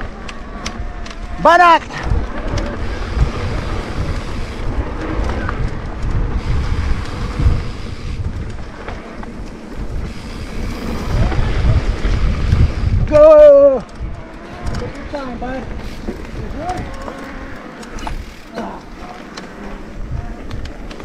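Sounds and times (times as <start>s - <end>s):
tyre noise: 0.0s - 21.0s
wind buffeting microphone: 0.0s - 21.0s.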